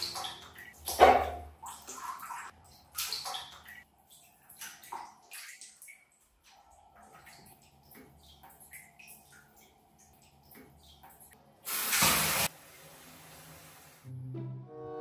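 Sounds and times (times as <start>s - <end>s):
bathwater splashing: 0.0s - 13.8s.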